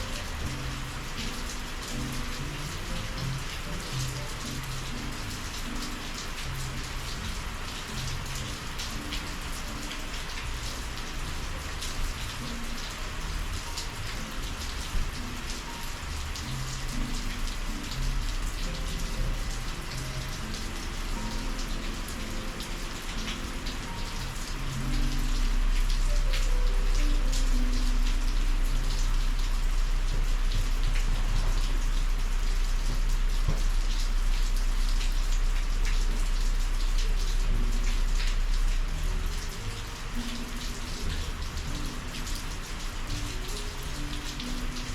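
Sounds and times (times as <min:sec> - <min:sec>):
raindrop hits: 0:00.0 - 0:44.9
steady rain falling: 0:00.0 - 0:44.9.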